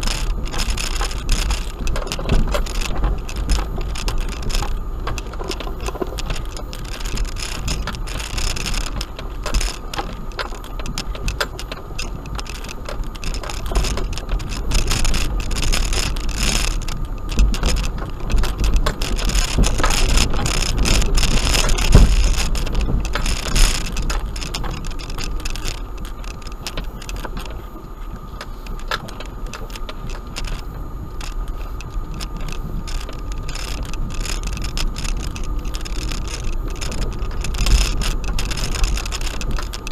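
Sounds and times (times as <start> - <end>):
car rumbling over gravel: 0.0 - 39.9.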